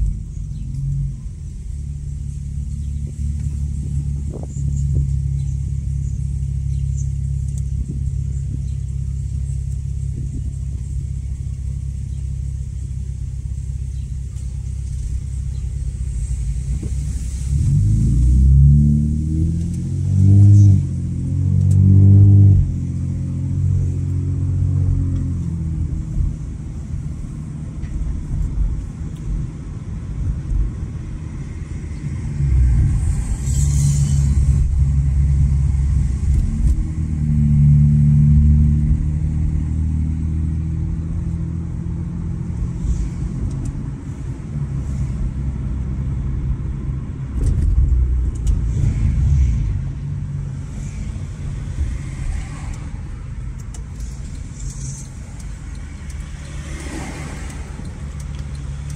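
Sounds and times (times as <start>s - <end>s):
car exhaust droning: 0.0s - 58.9s.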